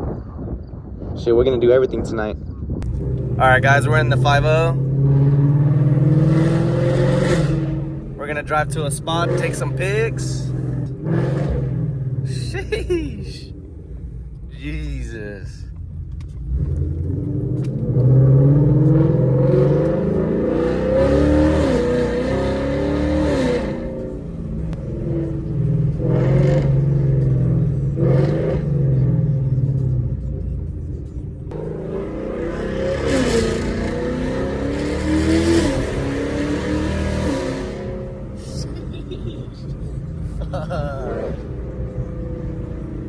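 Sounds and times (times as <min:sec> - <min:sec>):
car engine accelerating hard: 0:02.8 - 0:13.0, 0:15.8 - 0:43.0
loud raspy exhaust: 0:02.8 - 0:43.0.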